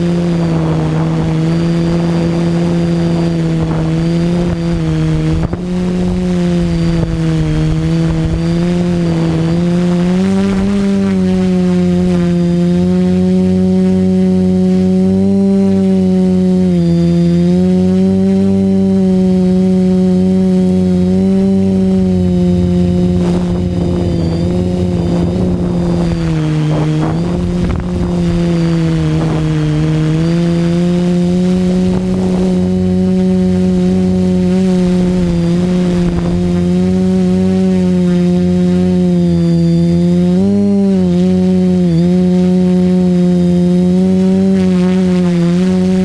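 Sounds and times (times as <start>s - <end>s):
drone propellers buzzing: 0.0s - 46.0s.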